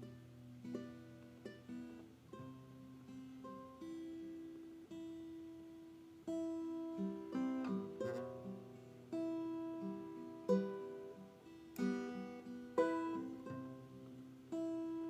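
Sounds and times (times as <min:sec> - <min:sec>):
acoustic guitar plucking and strumming: 0:00.0 - 0:15.0.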